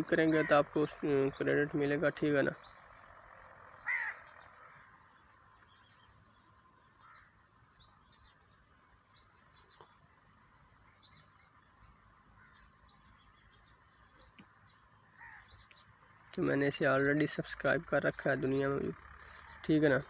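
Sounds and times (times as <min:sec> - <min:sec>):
high-pitched insect buzz: 0:00.0 - 0:20.0
small bird chirping: 0:00.0 - 0:20.0.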